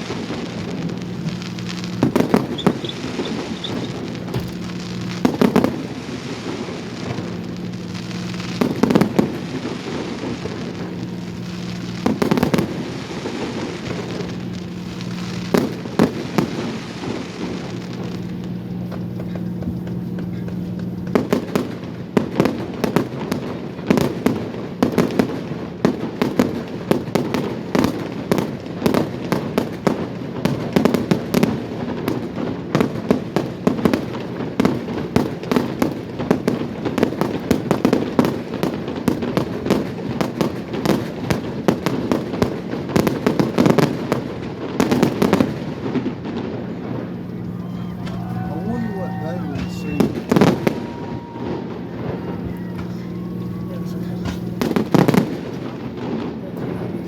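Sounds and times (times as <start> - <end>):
firework bangs and crackles: 0.0 - 57.0
steady low hum: 0.0 - 57.0.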